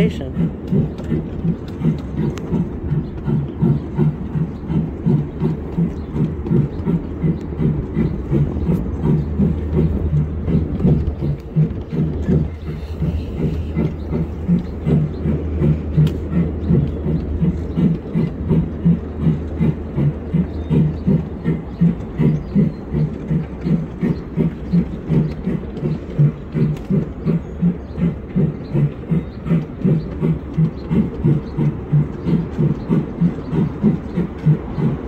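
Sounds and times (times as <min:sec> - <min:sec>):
miniature train running on track: 0:00.0 - 0:35.0
regular knocking of wheels: 0:00.0 - 0:35.0.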